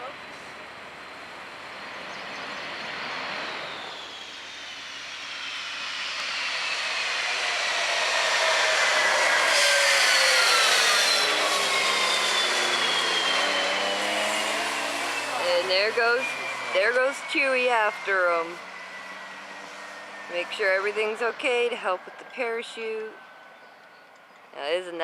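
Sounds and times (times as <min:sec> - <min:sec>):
jet engine passing: 0:00.0 - 0:25.0.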